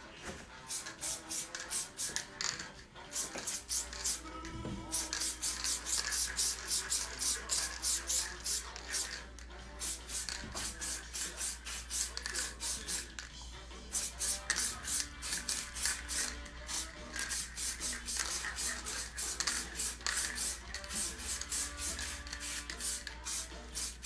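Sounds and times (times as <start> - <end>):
spray can hissing bursts: 0.6 - 4.3, 4.9 - 13.2, 13.9 - 24.0.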